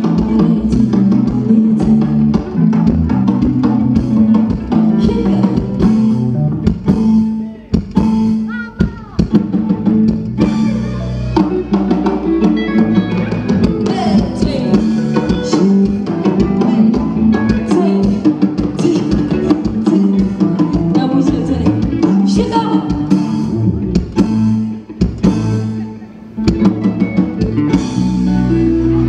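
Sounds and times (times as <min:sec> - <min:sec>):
band music with steady beat: 0:00.0 - 0:29.0.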